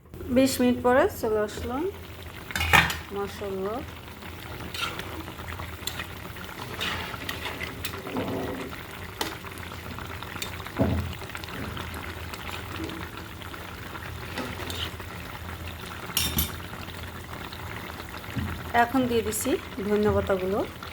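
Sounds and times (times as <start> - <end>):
curry bubbling in pan: 0.1 - 20.9.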